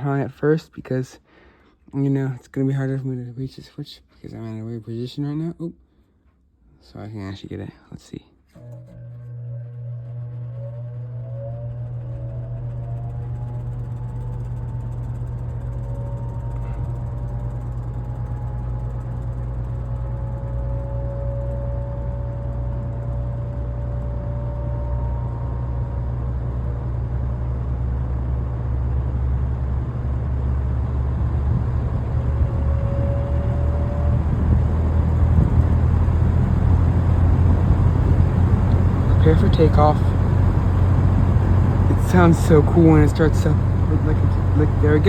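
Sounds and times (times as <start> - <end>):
faint whining tones: 8.5 - 45.0
fan motor hum: 8.5 - 45.0.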